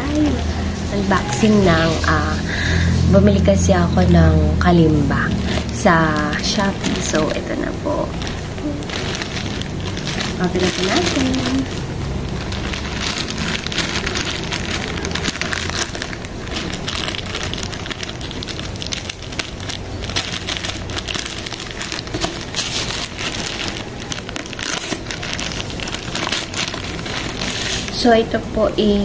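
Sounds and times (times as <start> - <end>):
plastic mailer bag crinkling: 0.2 - 3.6, 4.9 - 28.4.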